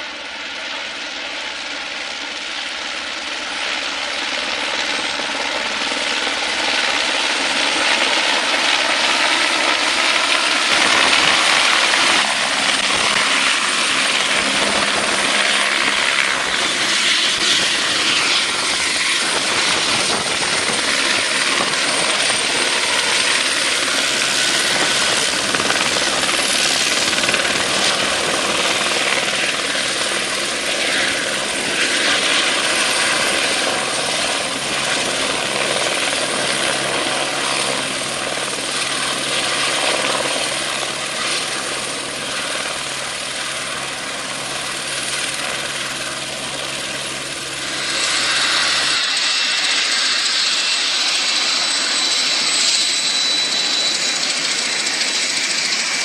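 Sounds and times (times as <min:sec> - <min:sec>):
helicopter rotor: 0:00.0 - 0:56.0
high steady engine whine: 0:05.3 - 0:56.0.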